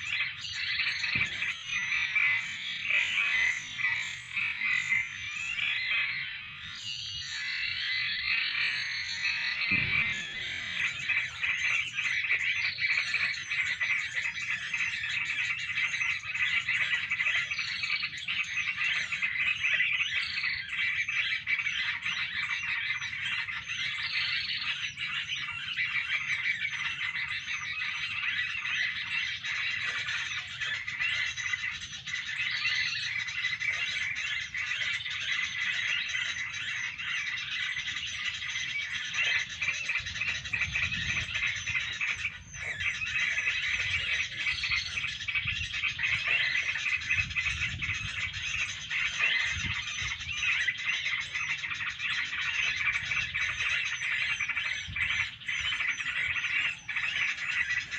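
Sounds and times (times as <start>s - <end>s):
chorus of chirping and croaking: 0.0s - 57.9s.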